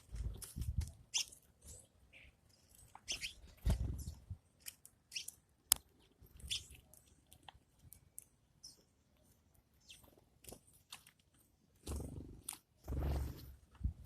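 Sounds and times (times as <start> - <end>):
bird chirps and clicks: 0.0 - 12.7.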